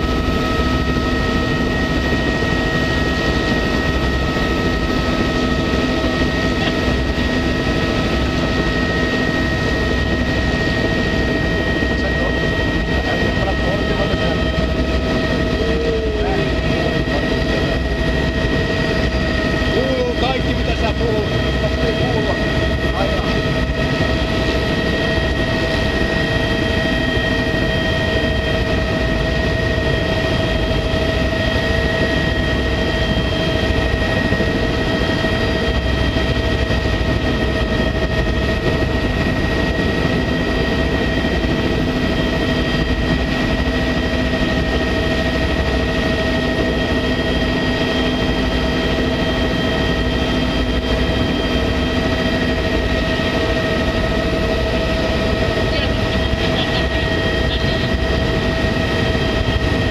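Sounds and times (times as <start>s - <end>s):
helicopter turbine whine: 0.0s - 59.9s
rotor and airflow drone: 0.0s - 59.9s.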